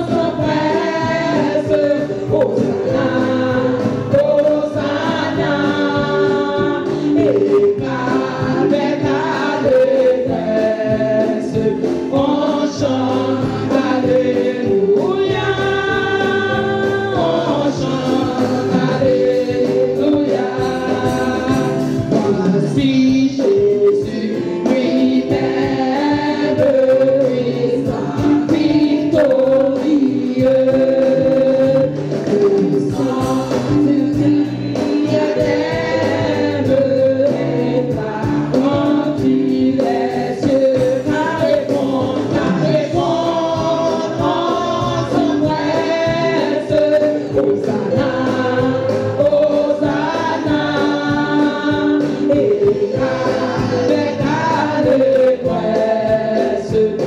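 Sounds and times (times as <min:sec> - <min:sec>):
choir singing gospel: 0:00.0 - 0:57.0.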